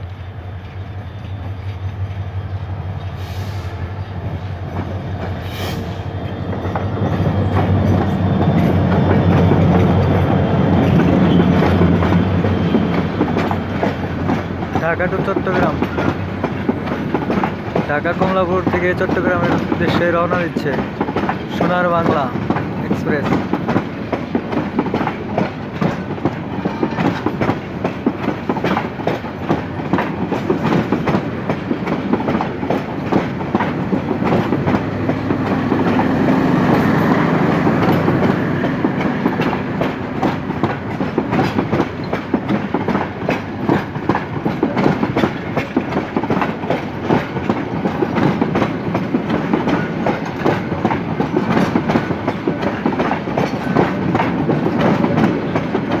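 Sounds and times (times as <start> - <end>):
train rumble: 0.0 - 56.0
train wheels clattering over rail joints: 0.6 - 56.0.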